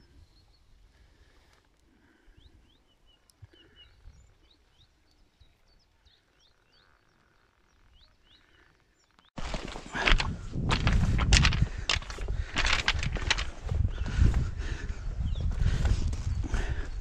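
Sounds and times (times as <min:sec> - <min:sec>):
faint birdsong chirping: 0:00.0 - 0:10.5, 0:11.5 - 0:17.0.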